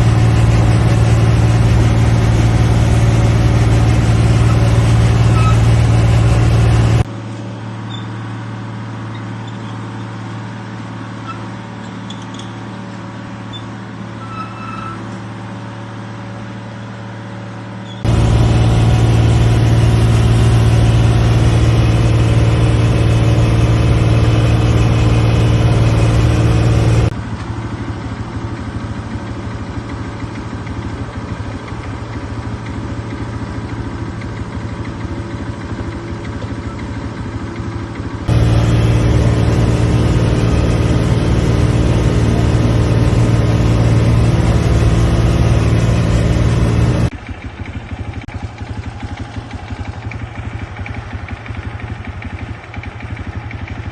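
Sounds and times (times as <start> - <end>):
vehicle engine humming: 0.0 - 53.9.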